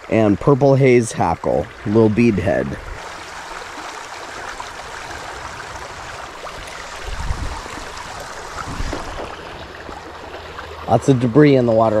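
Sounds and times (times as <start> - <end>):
water flowing over cobbles: 0.0 - 12.0.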